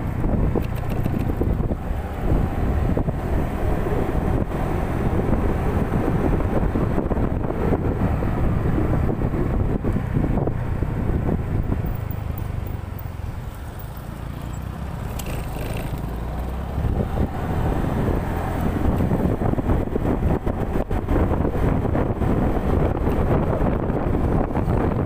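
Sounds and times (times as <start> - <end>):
motorcycle engine: 0.0 - 25.0
road noise: 0.0 - 25.0
wind buffeting microphone: 0.0 - 25.0.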